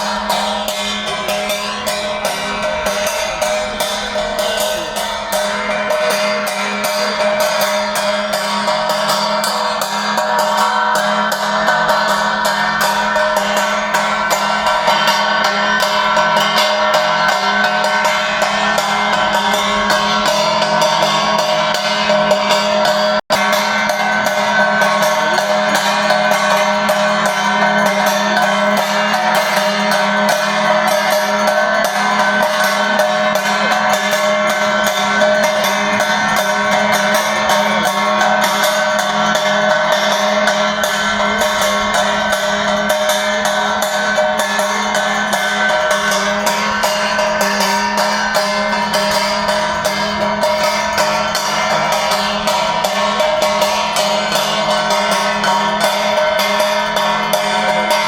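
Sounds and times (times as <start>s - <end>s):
bells and cymbals: 0.0s - 58.0s
drumming: 0.0s - 58.0s
steady ringing tones: 0.0s - 58.0s.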